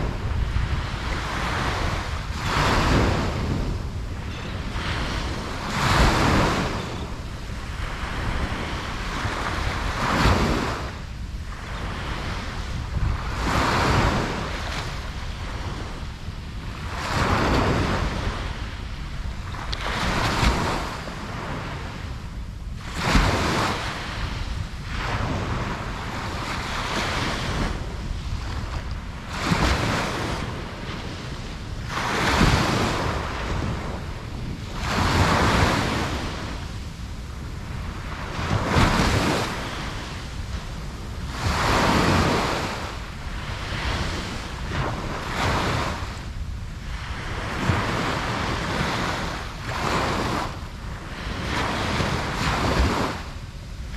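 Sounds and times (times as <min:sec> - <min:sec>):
ocean waves breaking: 0:00.0 - 0:53.9.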